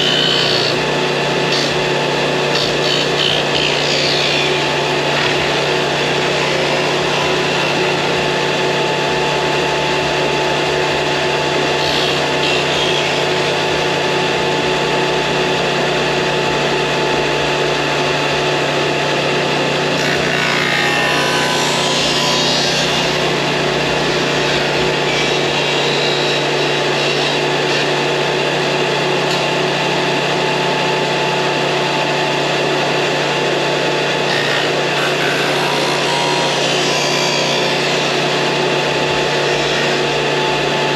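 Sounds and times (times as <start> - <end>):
power tool motor running: 0.0 - 40.9
tool working wood: 0.0 - 40.9.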